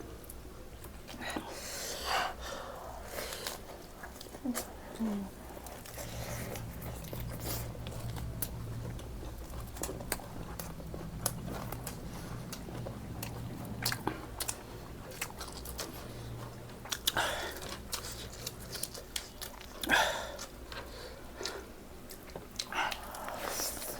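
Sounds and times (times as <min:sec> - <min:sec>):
steady low hum: 0:00.0 - 0:23.9
person chewing food: 0:02.6 - 0:23.9.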